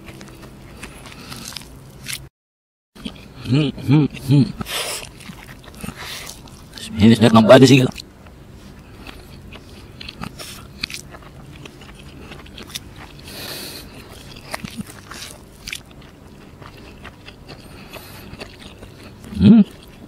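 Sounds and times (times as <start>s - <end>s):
wet chewing: 0.0s - 2.3s, 3.0s - 20.0s.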